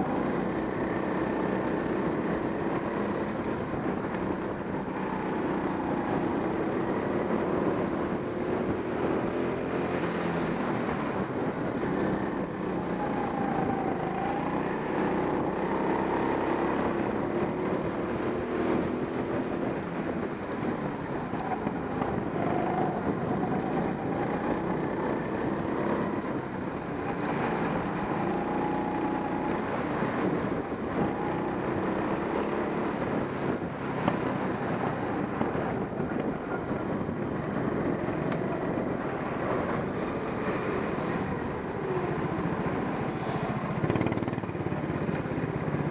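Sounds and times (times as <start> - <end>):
go-kart engine revving: 0.0 - 45.9.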